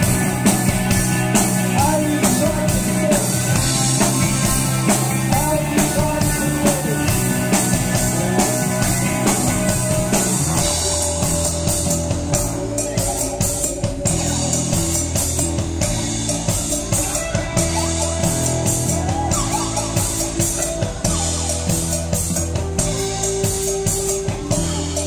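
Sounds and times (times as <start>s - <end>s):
bass guitar: 0.0s - 25.0s
drum kit beat: 0.0s - 25.0s
keyboards: 0.0s - 25.0s.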